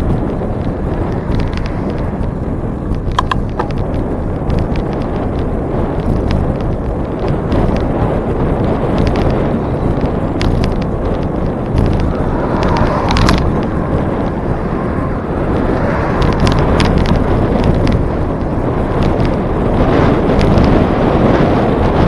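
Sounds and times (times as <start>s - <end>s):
bicycle clicks and rattles: 0.0s - 22.0s
wind rushing over microphone: 0.0s - 22.0s.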